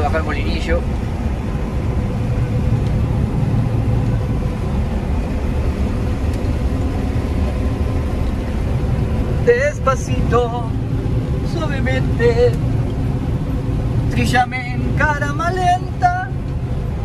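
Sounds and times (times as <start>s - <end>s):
combine harvester engine drone: 0.0s - 17.0s
faint steady whine: 0.0s - 17.0s.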